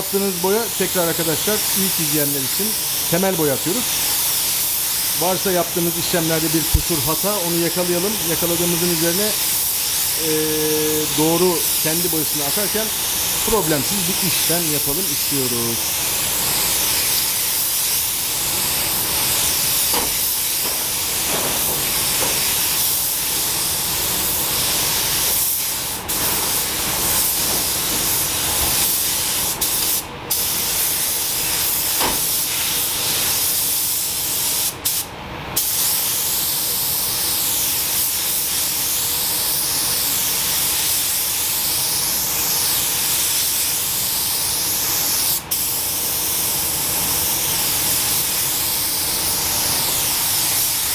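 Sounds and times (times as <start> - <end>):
air spray gun hissing: 0.0 - 50.9.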